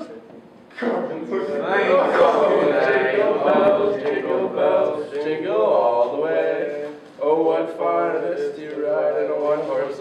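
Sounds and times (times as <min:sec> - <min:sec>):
men singing a carol: 0:01.0 - 0:10.0.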